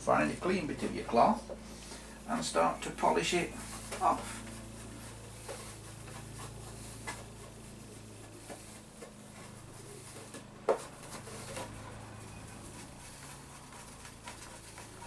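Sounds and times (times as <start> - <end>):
cloth rubbing on plastic: 2.3 - 15.0.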